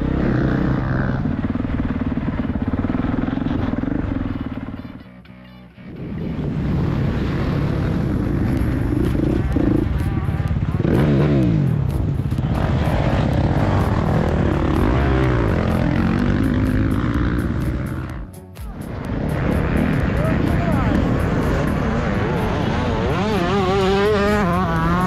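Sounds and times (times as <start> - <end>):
motocross bike engine revving: 0.0 - 4.9, 6.0 - 25.0.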